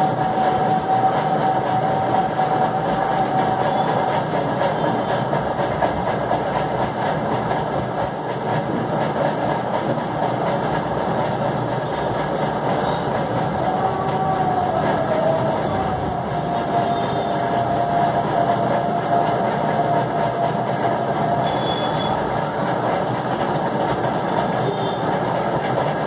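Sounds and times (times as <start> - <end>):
machine hum and rush: 0.0 - 26.0.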